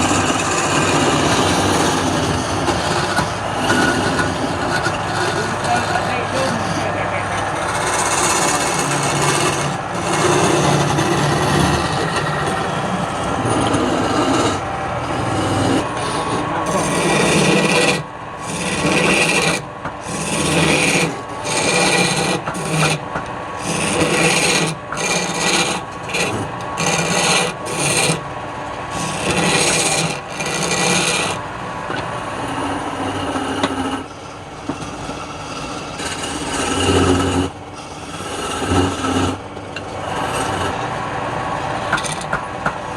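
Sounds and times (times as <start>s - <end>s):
wood lathe rasping scrape: 0.0s - 42.9s.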